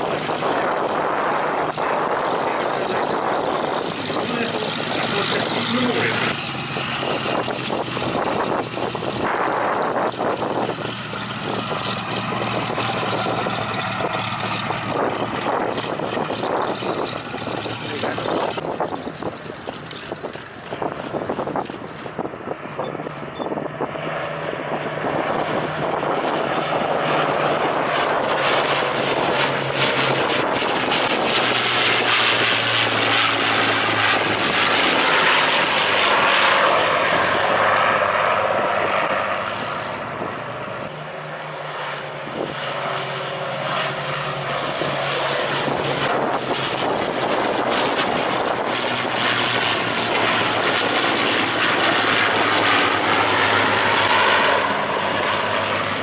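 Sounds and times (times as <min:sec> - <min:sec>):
propeller aircraft engine fly-by: 0:00.0 - 0:56.0.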